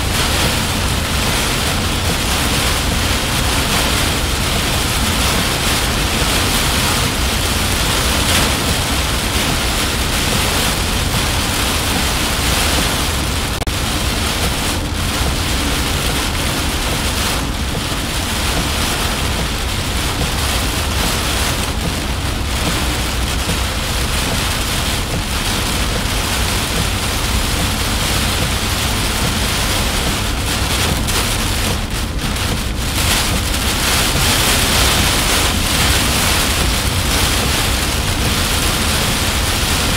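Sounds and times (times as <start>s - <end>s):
heavy rain on car roof: 0.0s - 39.9s
road and wind noise: 0.0s - 39.9s.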